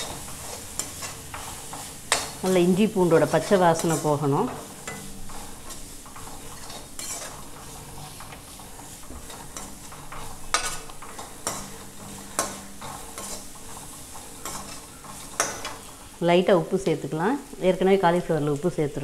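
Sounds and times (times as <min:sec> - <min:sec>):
spoon scraping onions in pan: 0:00.0 - 0:16.2
oil sizzling: 0:00.0 - 0:19.0.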